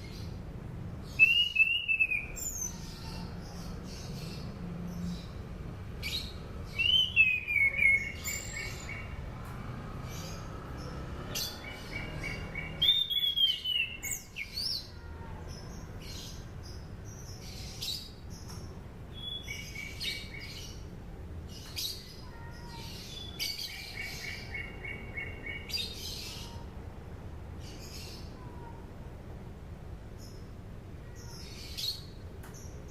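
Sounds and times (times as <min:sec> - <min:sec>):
low background noise: 0:00.0 - 0:32.9.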